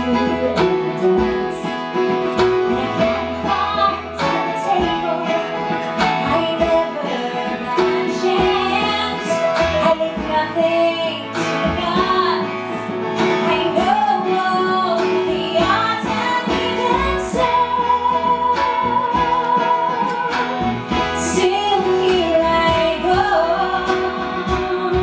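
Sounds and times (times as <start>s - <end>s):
instrumental accompaniment: 0.0s - 25.0s
woman singing into a microphone: 0.0s - 25.0s.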